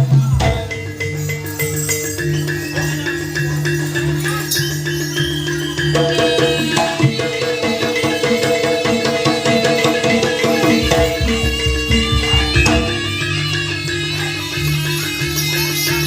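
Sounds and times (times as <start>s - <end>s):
hand drums: 0.0s - 16.0s
held melodic instrument lines: 0.1s - 16.0s.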